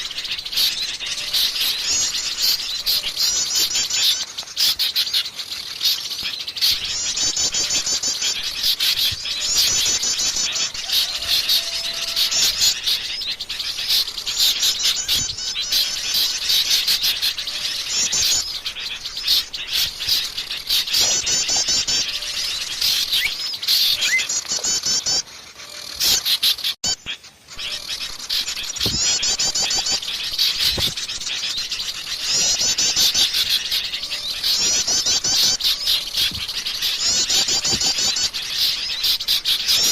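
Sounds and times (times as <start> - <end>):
fast high bird trills: 0.0 - 39.9
songbirds chirping and calling: 0.0 - 39.9.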